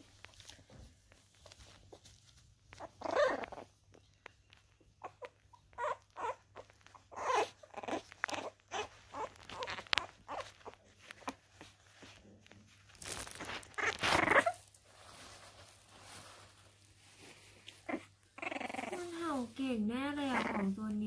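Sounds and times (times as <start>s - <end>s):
puppies scuffling: 0.0s - 21.0s.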